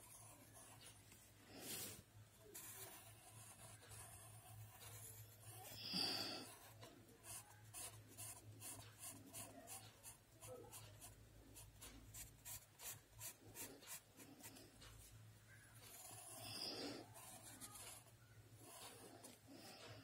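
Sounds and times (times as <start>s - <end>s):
pencil scratching on paper: 0.0s - 15.1s, 15.8s - 20.0s.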